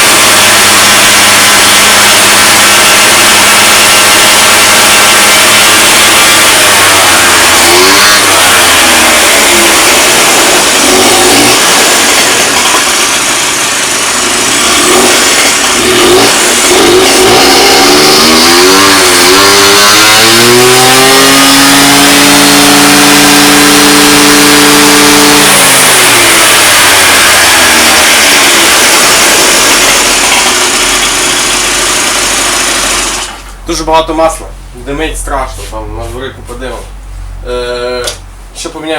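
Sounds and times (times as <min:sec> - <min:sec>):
scooter engine revving: 0:00.0 - 0:33.6.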